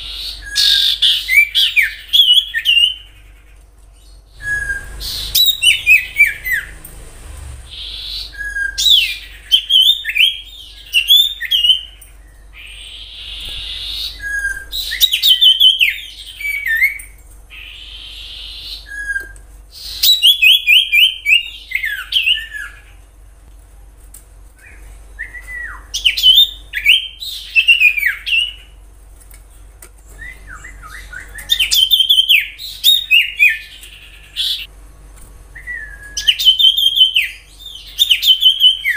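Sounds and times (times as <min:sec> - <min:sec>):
bird singing whistled notes: 0:00.0 - 0:03.2, 0:04.0 - 0:06.8, 0:07.5 - 0:22.8, 0:24.6 - 0:28.7, 0:30.2 - 0:34.7, 0:35.6 - 0:38.9.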